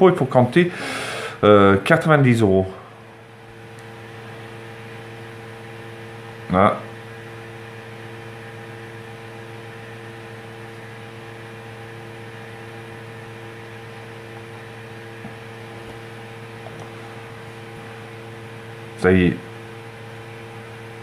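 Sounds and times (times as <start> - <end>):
electrical hum with tones: 0.0 - 21.0.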